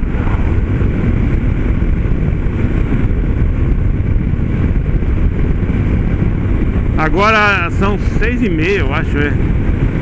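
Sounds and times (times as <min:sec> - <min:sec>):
motorcycle engine cruising: 0:00.0 - 0:10.0
wind on microphone: 0:00.0 - 0:10.0.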